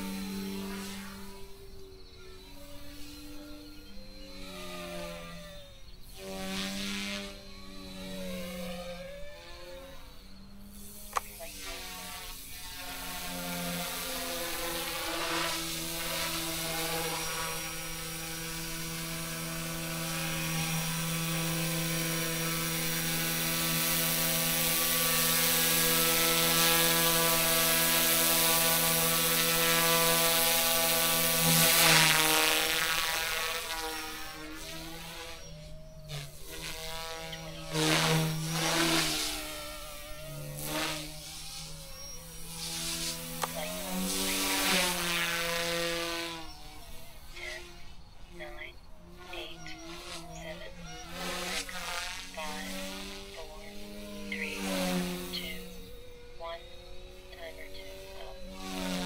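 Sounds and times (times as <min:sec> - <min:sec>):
toy helicopter motor whining: 0:00.0 - 0:59.0.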